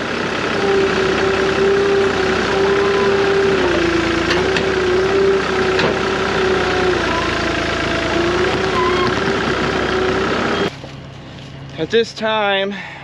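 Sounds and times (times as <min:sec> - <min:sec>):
wavering engine whine: 0:00.0 - 0:11.8
diesel engine running: 0:00.0 - 0:13.0.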